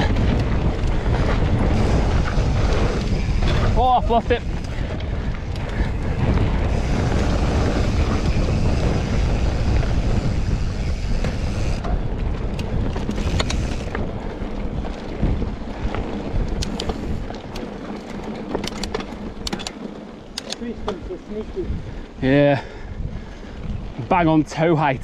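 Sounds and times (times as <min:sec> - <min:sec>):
sharp clicks and rattles: 0:00.0 - 0:21.7
tyres rolling over loose pebbles: 0:00.0 - 0:22.6
wind noise on microphone: 0:00.0 - 0:25.0.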